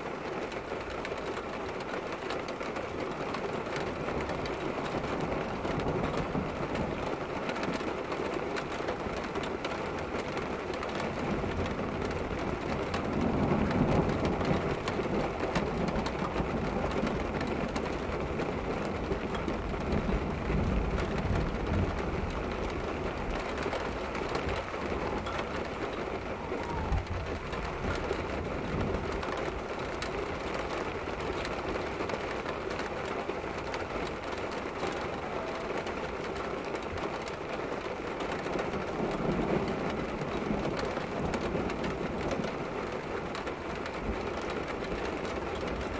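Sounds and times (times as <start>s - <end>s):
heavy rain and wind: 0.0s - 45.9s.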